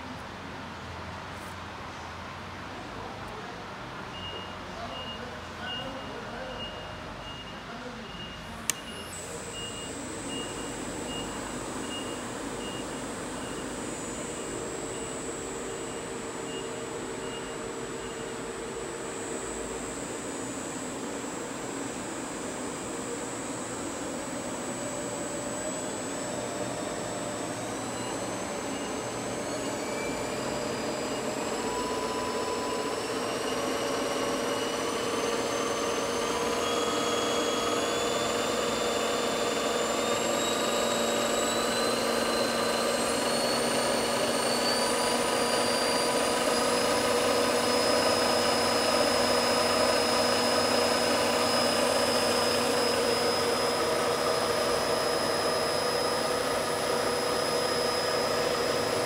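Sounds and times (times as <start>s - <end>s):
mill spindle whine rising in pitch: 8.6s - 59.0s.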